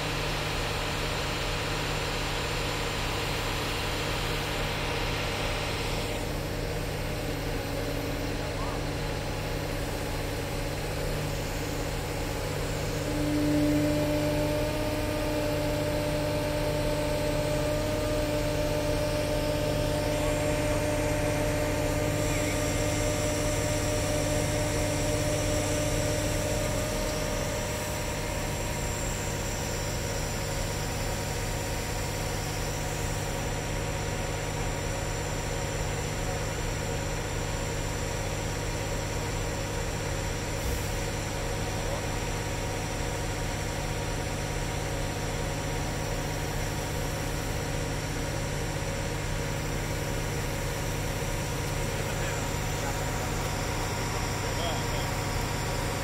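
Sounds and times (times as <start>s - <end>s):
steady whine: 0.0s - 35.4s, 39.0s - 56.0s
crane engine running: 0.0s - 56.0s.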